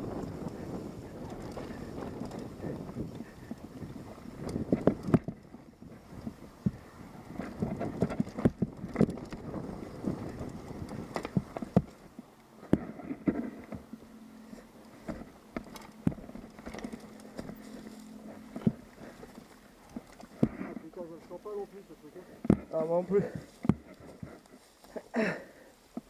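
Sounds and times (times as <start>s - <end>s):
mountain bike rattling downhill: 0.0s - 26.0s.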